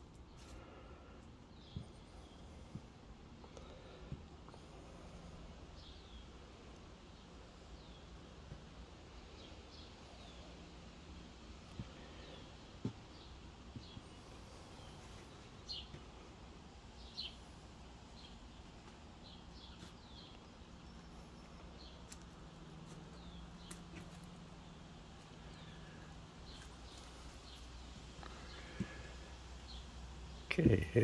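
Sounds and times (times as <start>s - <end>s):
birds chirping: 0.0s - 31.0s
low steady hum: 0.0s - 31.0s.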